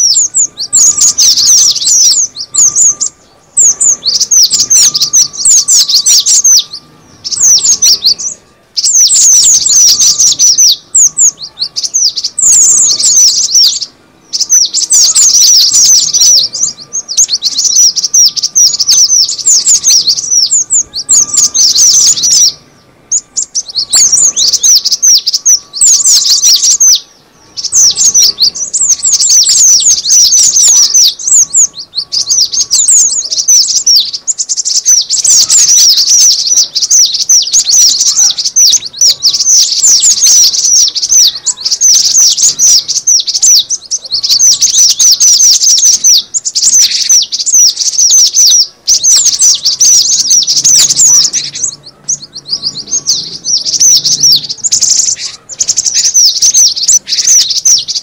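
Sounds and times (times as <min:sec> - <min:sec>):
faint steady tone: 0:00.0 - 0:58.0
high sharp bird chirps: 0:00.0 - 0:58.0.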